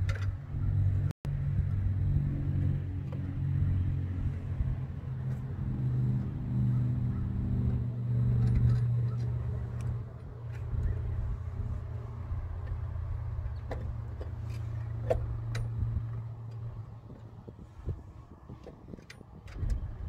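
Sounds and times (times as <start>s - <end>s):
steady engine-like drone: 0.0s - 20.0s.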